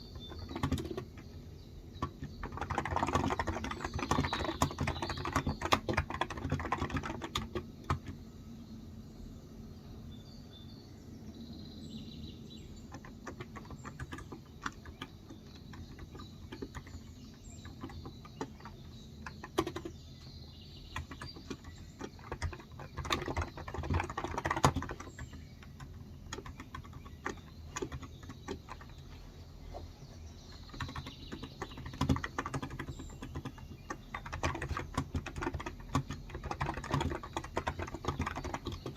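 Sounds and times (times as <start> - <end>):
faint bird chirps: 0.0 - 7.1, 8.0 - 38.9
keyboard typing: 0.0 - 8.2, 12.9 - 38.9.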